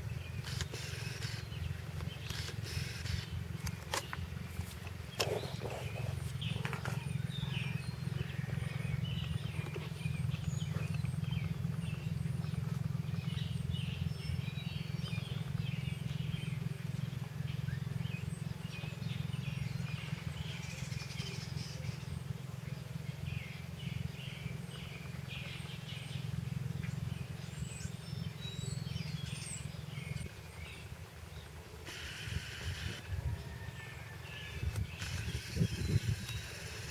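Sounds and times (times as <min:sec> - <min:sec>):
steady low rumble: 0:00.0 - 0:33.5.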